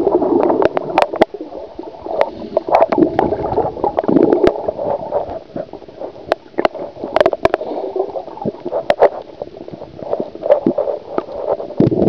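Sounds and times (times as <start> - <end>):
muffled underwater water gurgling: 0.0 - 12.0.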